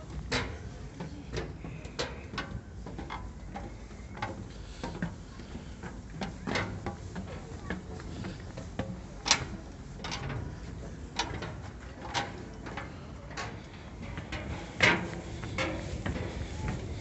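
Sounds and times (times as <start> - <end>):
footsteps clanking on steel stairs: 0.0 - 17.0.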